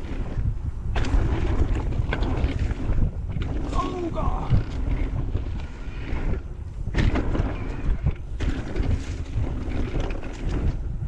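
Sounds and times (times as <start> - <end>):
bike knocks and rattles: 0.0 - 11.0
wind buffeting microphone: 0.0 - 11.0.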